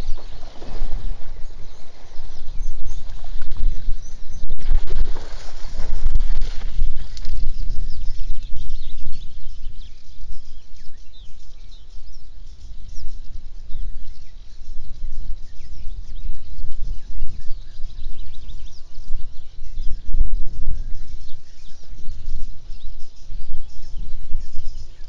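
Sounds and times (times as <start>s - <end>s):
small birds chirping: 0.0s - 25.0s
wind rumbling on microphone: 0.0s - 25.0s.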